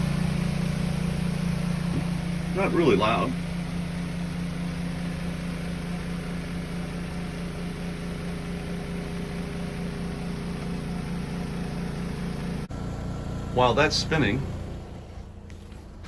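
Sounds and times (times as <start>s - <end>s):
spin dryer motor humming: 0.0s - 16.0s.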